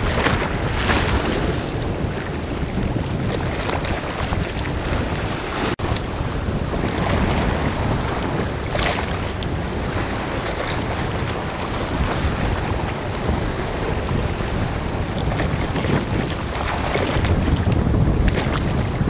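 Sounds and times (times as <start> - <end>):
waves washing against rocks: 0.0 - 19.0
wind buffeting microphone: 0.0 - 19.0.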